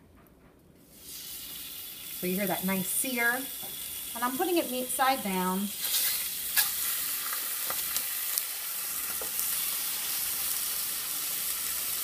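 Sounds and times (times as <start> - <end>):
chicken sizzling in oil: 0.9 - 12.0.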